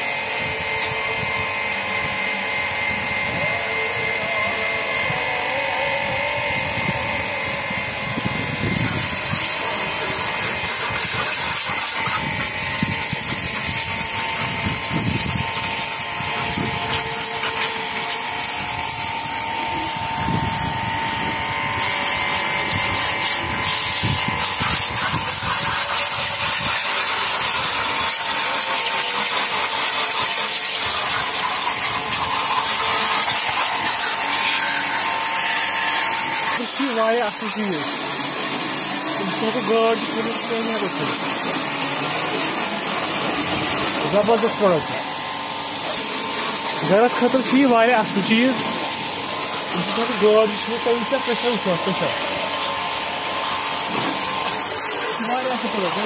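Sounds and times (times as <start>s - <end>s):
pressure washer motor whine: 0.0s - 56.0s
water jet hissing: 2.3s - 56.0s.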